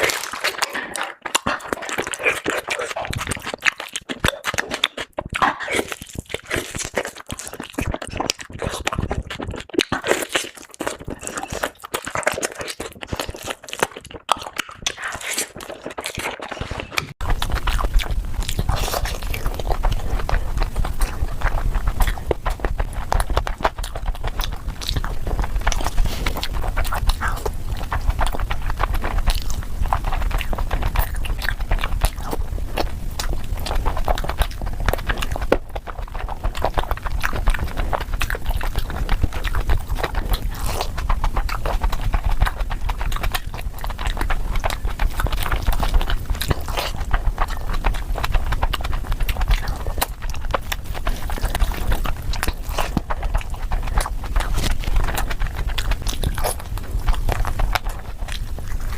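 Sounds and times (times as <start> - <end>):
chewing and mouth smacks: 0.0 - 58.9.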